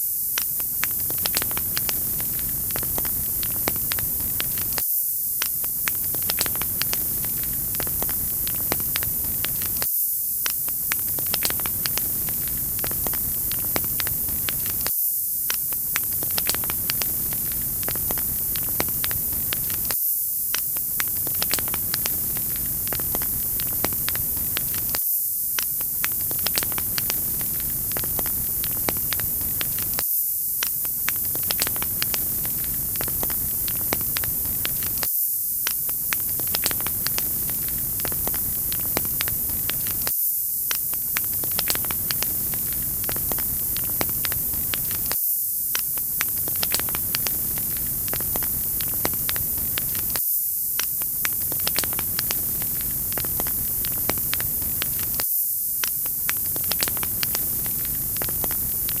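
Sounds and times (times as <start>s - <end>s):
wood fire crackling: 0.6s - 4.8s, 5.4s - 14.9s, 15.5s - 25.0s, 25.6s - 30.0s, 30.8s - 40.1s, 40.8s - 45.2s, 45.8s - 50.2s, 51.0s - 55.2s, 56.1s - 59.0s.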